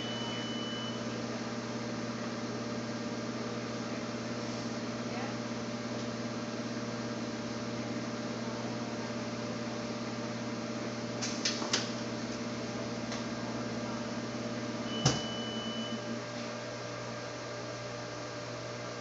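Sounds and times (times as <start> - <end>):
welding press electrical hum: 0.0 - 19.0.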